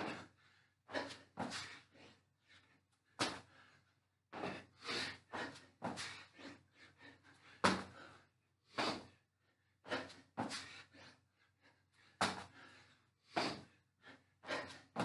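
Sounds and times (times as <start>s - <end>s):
hard breathing: 0.0s - 15.0s.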